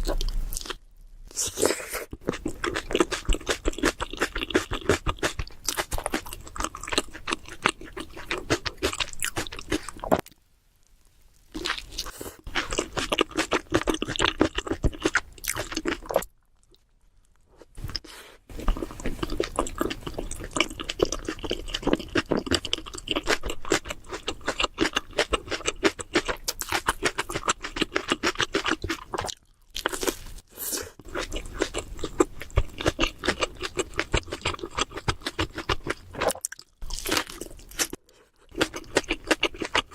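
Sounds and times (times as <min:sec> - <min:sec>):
chewing crunchy sandwich: 0:00.0 - 0:10.3, 0:11.6 - 0:39.9.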